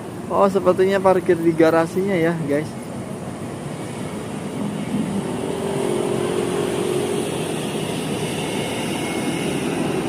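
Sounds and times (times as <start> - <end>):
bus engine humming: 0.0 - 10.0.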